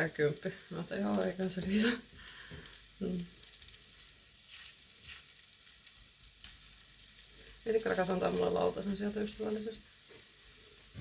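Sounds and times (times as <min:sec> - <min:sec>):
pancake sizzling in a pan: 0:00.0 - 0:11.0.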